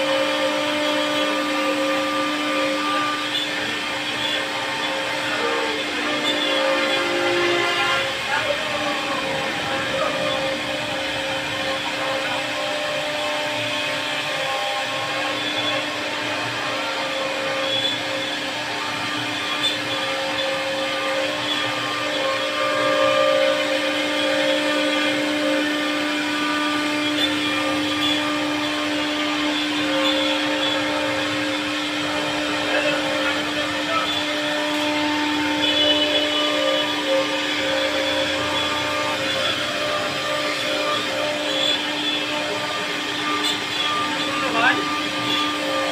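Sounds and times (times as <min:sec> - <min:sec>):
wood router motor whining: 0:00.0 - 0:45.9.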